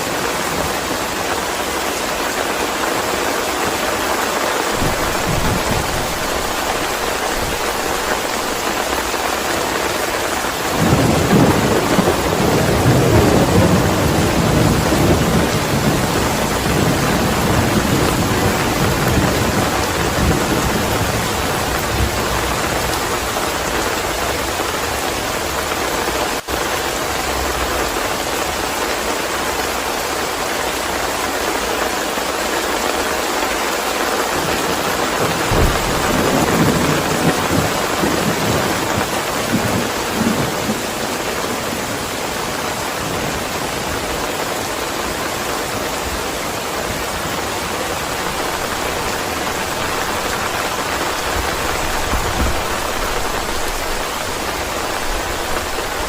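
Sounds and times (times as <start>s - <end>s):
thunder rumbling: 0.0s - 28.8s, 34.4s - 42.2s, 46.0s - 56.0s
heavy rain: 0.0s - 56.0s.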